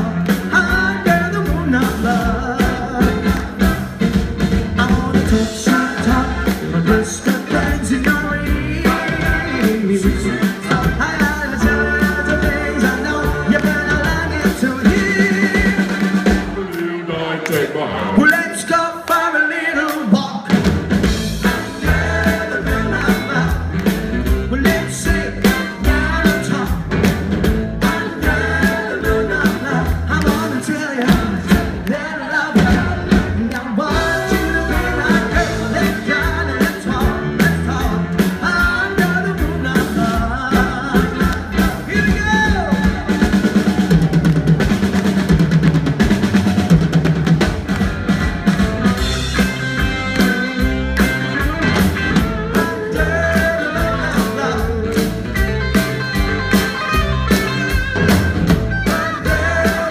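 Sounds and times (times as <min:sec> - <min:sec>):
drum kit: 0:00.0 - 0:16.9, 0:19.9 - 0:59.9
lead singer: 0:00.0 - 0:48.1, 0:48.9 - 0:59.9
guitar: 0:00.0 - 0:59.9
rock band playing: 0:00.0 - 0:59.9.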